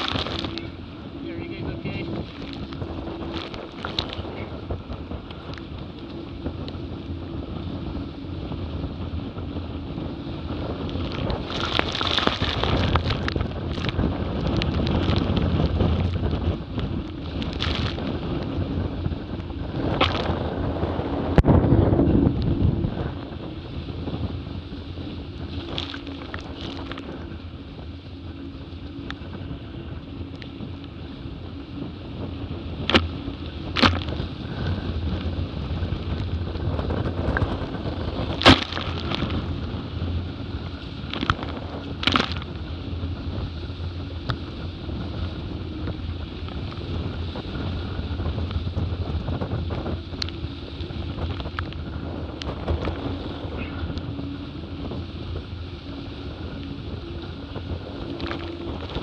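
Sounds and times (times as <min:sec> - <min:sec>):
water rushing past hulls: 0:00.0 - 0:59.0
wind buffeting microphone: 0:00.0 - 0:59.0.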